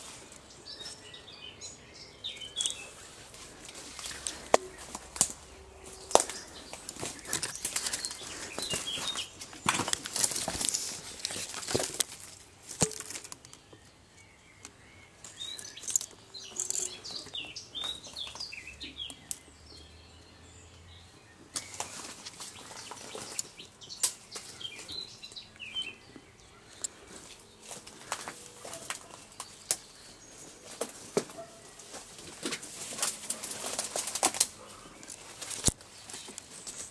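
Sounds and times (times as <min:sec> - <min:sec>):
leaves and twigs crackling underfoot: 0:00.0 - 0:01.2, 0:02.2 - 0:13.8, 0:15.2 - 0:19.4, 0:21.5 - 0:25.9, 0:26.7 - 0:36.9
small birds chirping: 0:00.0 - 0:36.9.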